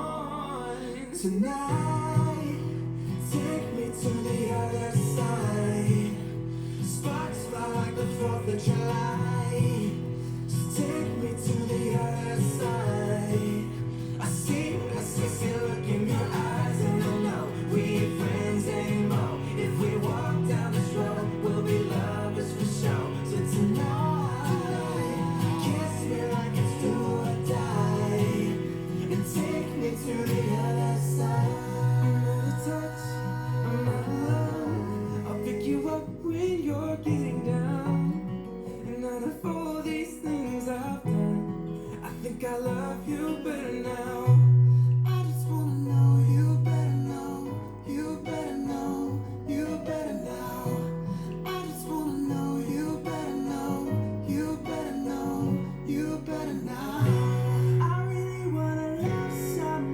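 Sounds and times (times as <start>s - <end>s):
pop song with guitar: 0.0s - 59.9s.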